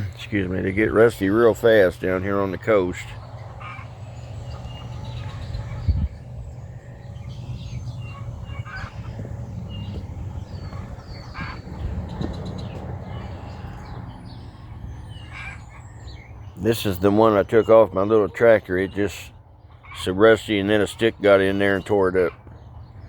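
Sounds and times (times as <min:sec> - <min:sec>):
steady low hum: 0:00.0 - 0:21.8
small birds chirping: 0:00.0 - 0:23.0.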